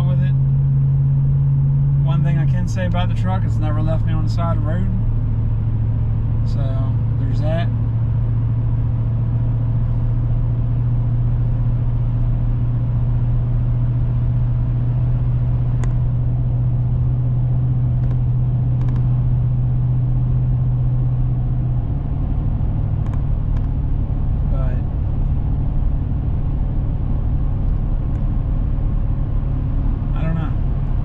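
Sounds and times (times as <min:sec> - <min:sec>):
pickup truck engine drone: 0:00.0 - 0:31.0.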